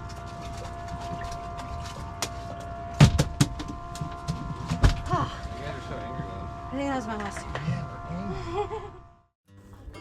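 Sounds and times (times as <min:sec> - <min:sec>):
boat engine humming: 0:00.0 - 0:09.4.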